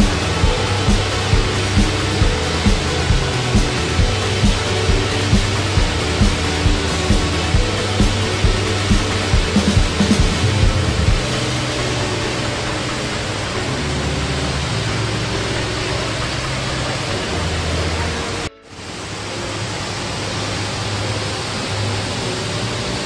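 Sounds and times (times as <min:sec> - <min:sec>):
music playing low: 0:00.0 - 0:23.0
waterfall roaring: 0:00.0 - 0:23.0.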